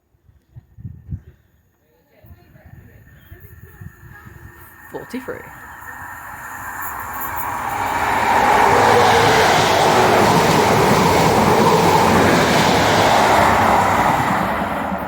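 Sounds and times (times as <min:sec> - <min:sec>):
train passing at speed: 0:02.5 - 0:15.0.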